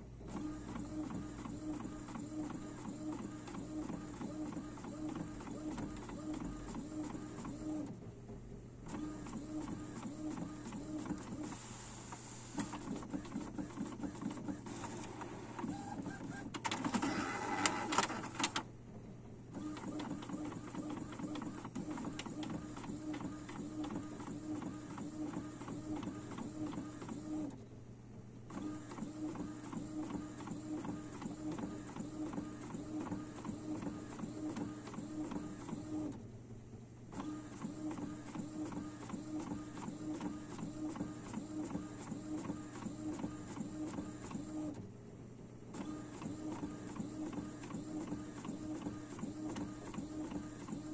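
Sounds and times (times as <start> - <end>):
inkjet printer printing: 0.3 - 8.0, 8.9 - 18.7, 19.5 - 27.6, 28.5 - 36.2, 37.1 - 44.8, 45.7 - 50.9.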